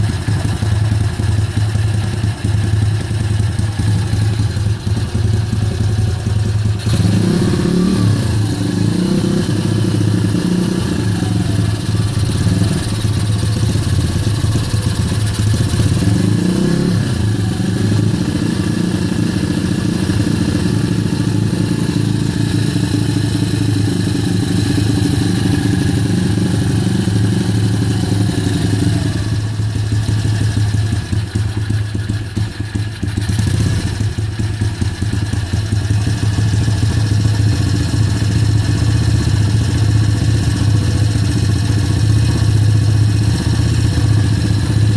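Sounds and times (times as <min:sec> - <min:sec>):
motorcycle engine revs hunting: 0:00.0 - 0:44.9.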